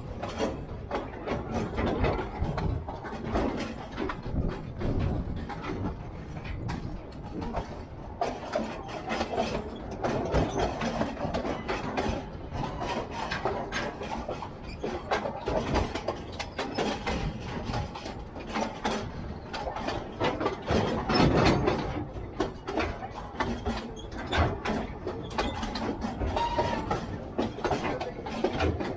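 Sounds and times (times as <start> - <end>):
train wheels clattering: 0.0 - 28.9.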